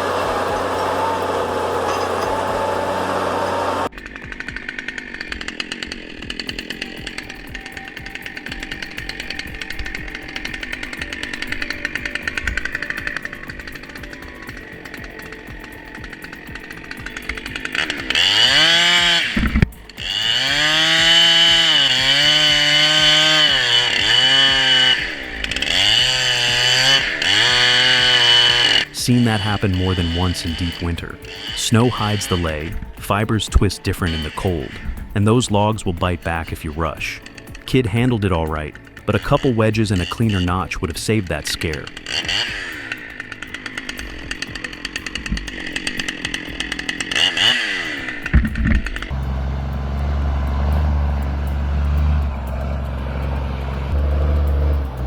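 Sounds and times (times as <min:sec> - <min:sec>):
chainsaw running: 0:00.0 - 0:55.0
heavy engine running: 0:00.0 - 0:55.0.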